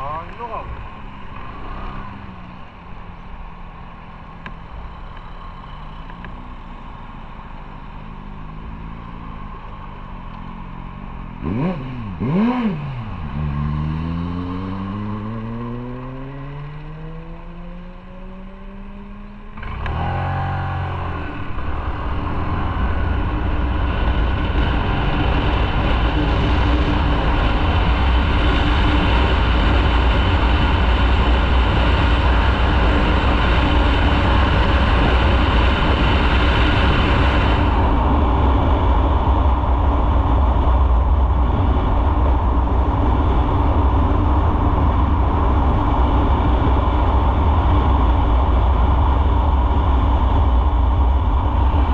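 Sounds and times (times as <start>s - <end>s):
wind and road noise: 0.0s - 51.9s
motorcycle engine accelerating: 7.9s - 51.9s.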